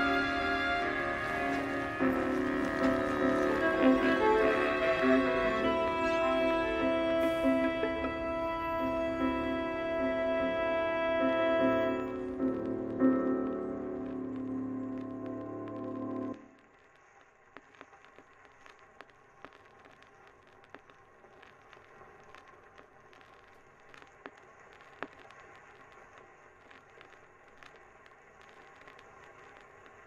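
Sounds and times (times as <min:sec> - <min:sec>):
faint crackling clicks: 0:00.0 - 0:06.5, 0:11.6 - 0:30.0
steady low hiss: 0:00.0 - 0:30.0.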